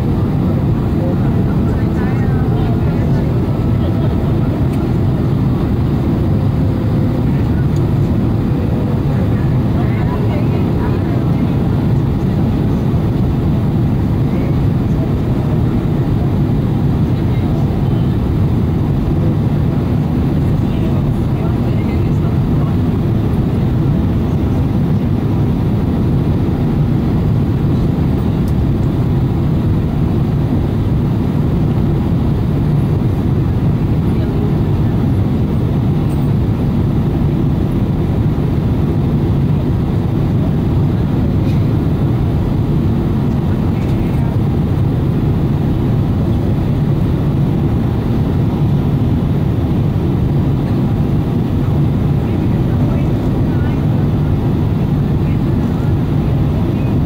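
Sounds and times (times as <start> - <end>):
jet engines humming: 0.0 - 57.0.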